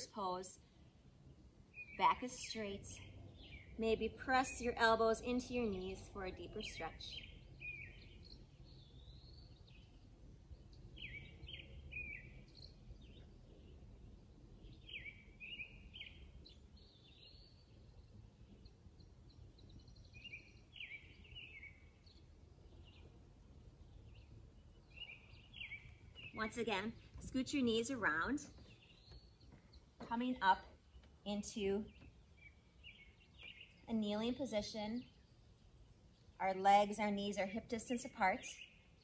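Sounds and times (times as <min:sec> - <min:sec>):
songbird chirping: 0:00.0 - 0:39.0.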